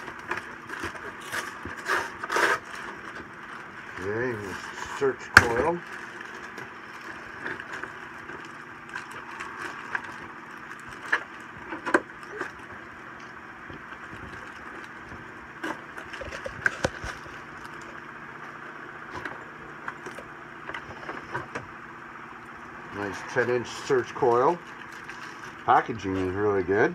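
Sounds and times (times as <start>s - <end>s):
cardboard and plastic rustling: 0.0s - 21.8s, 22.5s - 26.9s.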